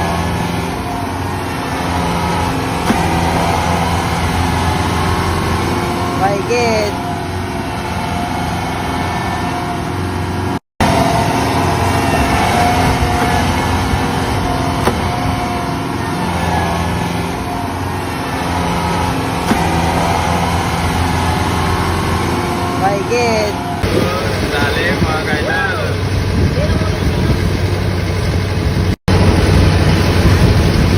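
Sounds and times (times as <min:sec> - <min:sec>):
diesel engine running under load: 0:00.0 - 0:30.9.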